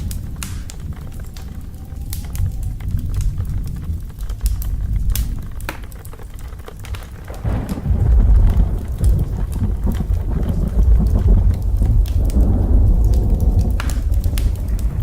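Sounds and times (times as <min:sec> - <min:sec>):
fireplace crackling and popping: 0:00.0 - 0:15.0
rain: 0:00.0 - 0:15.0
thunder rumbling: 0:00.0 - 0:15.0.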